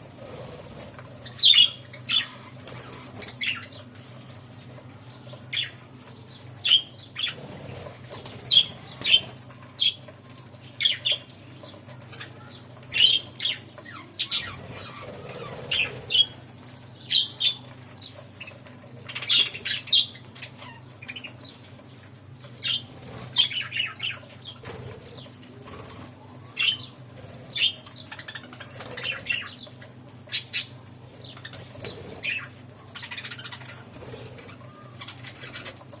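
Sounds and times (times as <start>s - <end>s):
budgerigars chirping and chattering: 0.1s - 4.1s, 5.2s - 36.0s.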